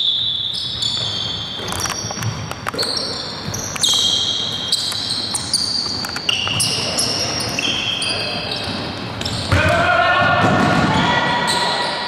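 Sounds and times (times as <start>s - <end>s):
shoes squeaking on court floor: 0.0s - 9.8s, 11.3s - 12.0s.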